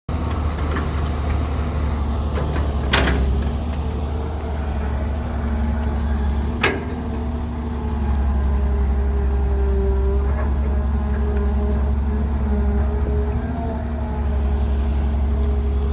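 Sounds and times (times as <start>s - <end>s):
diesel engine droning: 0.1s - 15.9s.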